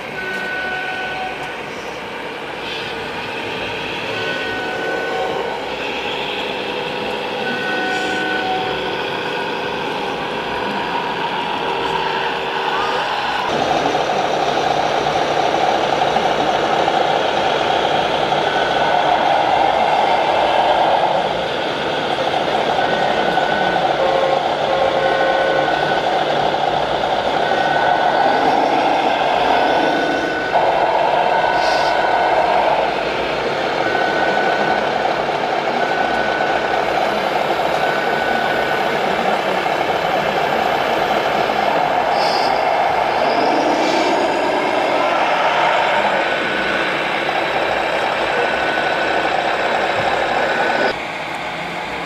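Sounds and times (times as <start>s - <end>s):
model truck engines running: 0.0s - 52.0s.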